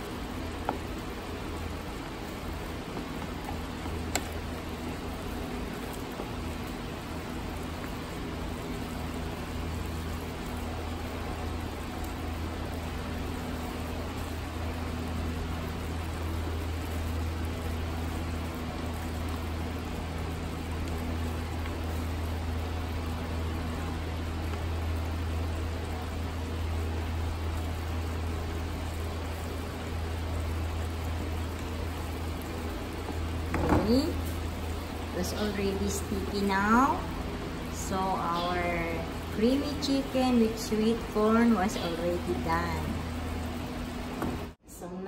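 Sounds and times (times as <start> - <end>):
sauce simmering hiss: 0.0 - 44.6
low gas stove hum: 0.0 - 45.0.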